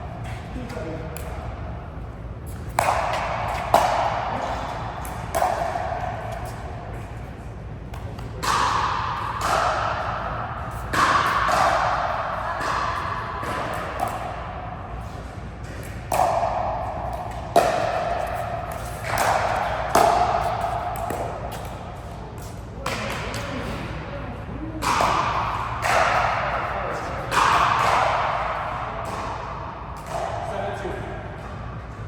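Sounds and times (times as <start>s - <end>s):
ball strikes echoing in court: 0.0s - 32.0s.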